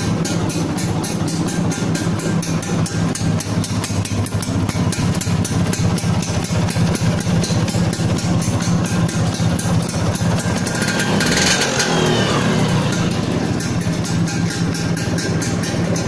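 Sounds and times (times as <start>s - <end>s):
fast even ticking: 0.0s - 16.0s
scooter engine idling: 0.0s - 16.0s.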